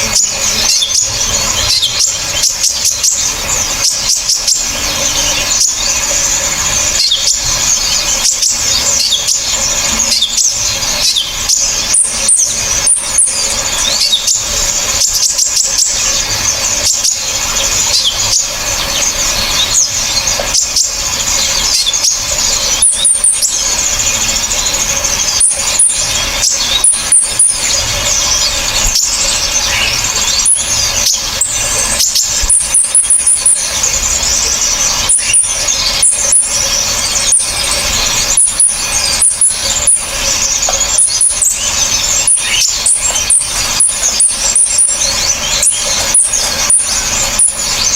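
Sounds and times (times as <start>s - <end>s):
high piercing bird notes: 0.0s - 47.9s
songbirds chirping and trilling: 0.0s - 47.9s.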